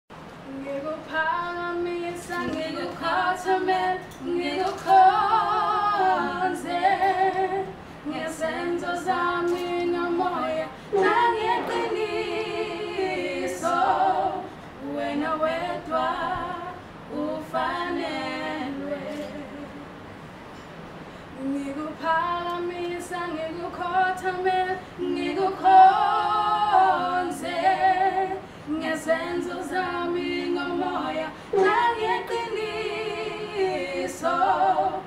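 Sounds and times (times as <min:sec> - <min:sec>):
voices singing: 0:00.4 - 0:20.1, 0:21.4 - 0:35.0
woman singing with vibrato: 0:00.4 - 0:20.1, 0:21.3 - 0:35.0.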